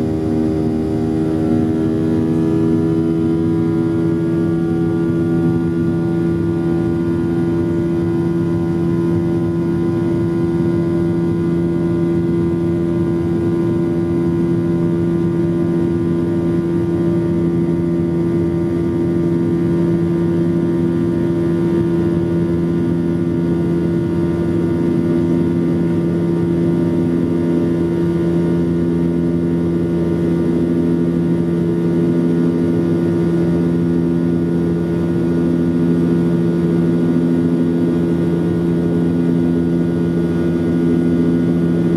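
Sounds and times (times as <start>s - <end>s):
jet engine drone: 0.0s - 41.9s.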